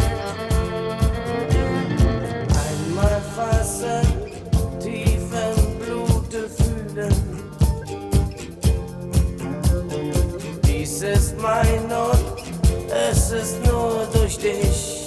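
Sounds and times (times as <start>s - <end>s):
pop song: 0.0s - 15.0s
steady drum beat: 0.0s - 15.0s.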